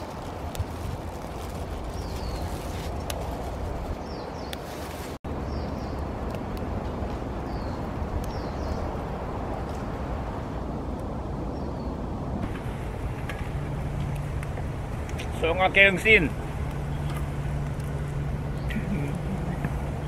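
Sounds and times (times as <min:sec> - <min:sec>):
rushing outdoor noise: 0:00.0 - 0:20.0
wood fire crackling: 0:00.0 - 0:20.0.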